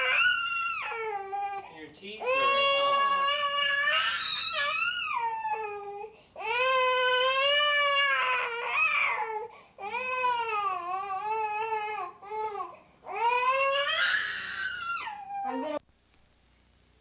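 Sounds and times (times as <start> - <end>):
baby crying: 0.0 - 15.8.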